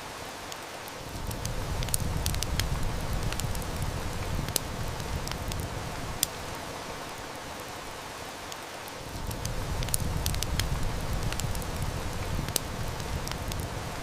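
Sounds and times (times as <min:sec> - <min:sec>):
heavy rain: 0:00.0 - 0:14.0
wood fire crackling: 0:00.0 - 0:14.0.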